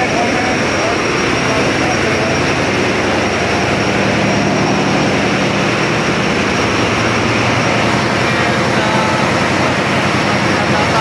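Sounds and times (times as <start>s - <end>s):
ship engine room drone: 0.0s - 11.0s.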